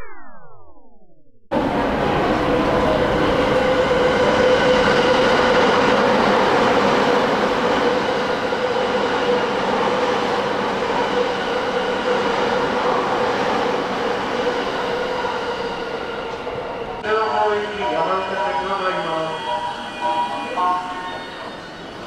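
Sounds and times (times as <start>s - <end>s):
steady train whine: 0.0s - 22.0s.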